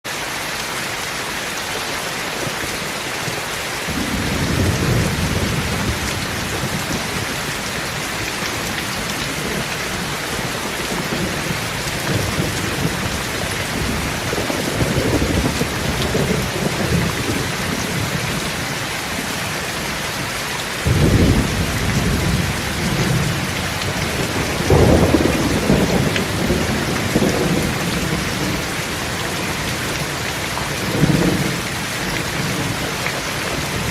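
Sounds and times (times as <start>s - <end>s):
steady rain: 0.0s - 33.9s
thunder rumbling: 3.9s - 19.4s, 20.8s - 33.9s.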